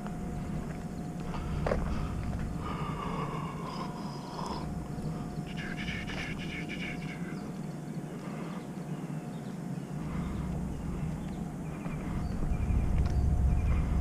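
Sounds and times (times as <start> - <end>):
distant traffic rumble: 0.0 - 14.0
thin steady hum: 0.0 - 14.0.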